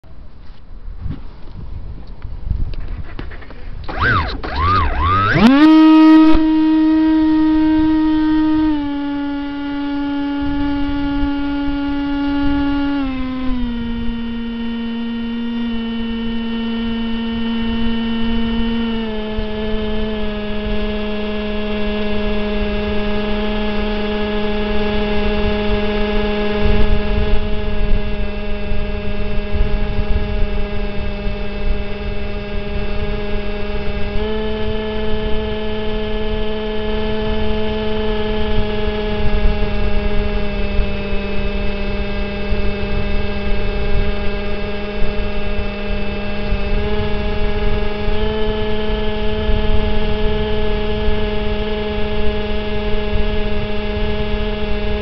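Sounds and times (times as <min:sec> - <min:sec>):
wind rumble on microphone: 0:00.0 - 0:55.0
model plane motor droning: 0:02.6 - 0:55.0.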